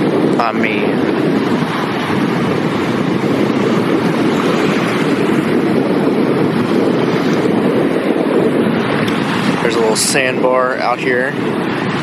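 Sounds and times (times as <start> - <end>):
waves washing in shallows: 0.0 - 12.0
wind buffeting microphone: 0.0 - 12.0.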